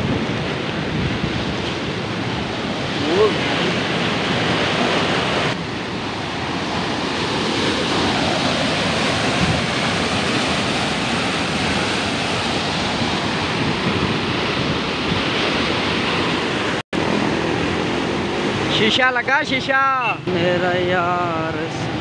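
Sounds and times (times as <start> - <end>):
water rushing under a gate: 0.0 - 22.0.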